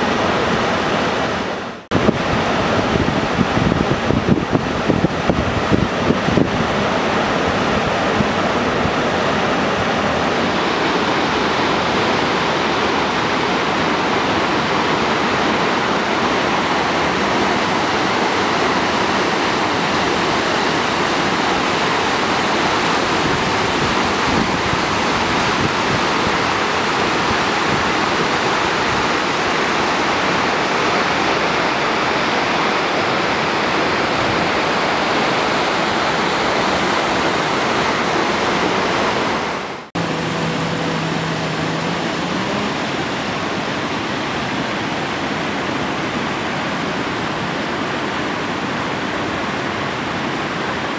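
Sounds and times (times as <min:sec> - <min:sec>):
rushing river water: 0:00.0 - 0:50.9.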